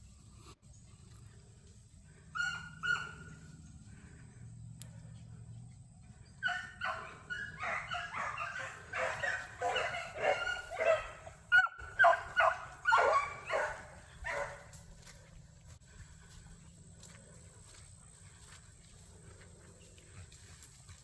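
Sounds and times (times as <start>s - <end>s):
hounds baying: 1.5s - 21.0s.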